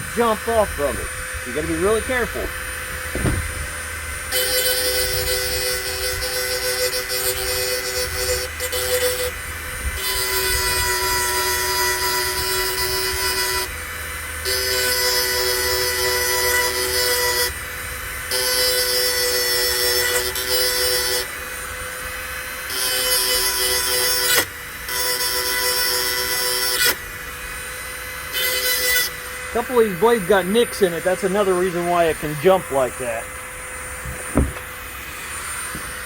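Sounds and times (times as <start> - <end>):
power grinder grinding metal: 0.0 - 36.0.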